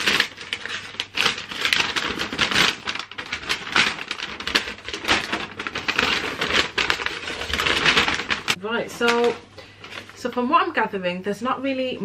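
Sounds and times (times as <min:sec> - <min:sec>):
paper leaflet rustling and crackling: 0:00.0 - 0:10.4.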